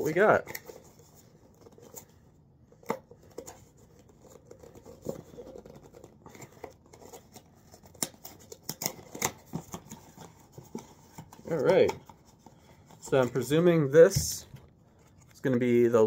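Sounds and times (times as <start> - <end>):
cardboard and packaging rustling: 0.0 - 16.0.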